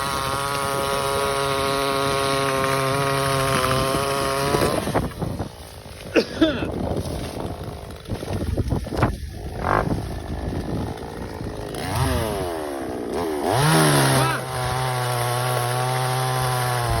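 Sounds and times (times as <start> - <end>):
small engine revving: 0.0 - 6.1, 6.9 - 17.0.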